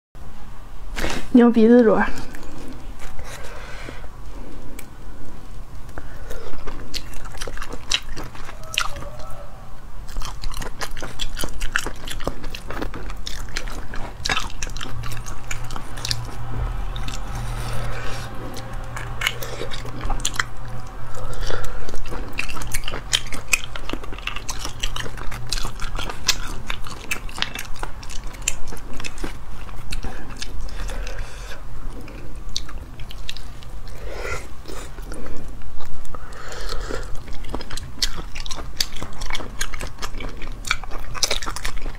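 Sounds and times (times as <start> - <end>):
chewing snail meat: 2.1 - 41.9.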